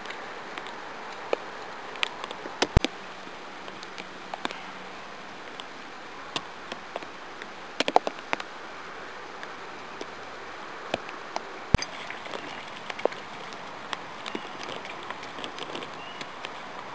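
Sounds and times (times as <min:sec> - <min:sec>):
hiss of falling wet snow: 0:00.0 - 0:16.9
sharp ticks and drips: 0:00.0 - 0:16.9.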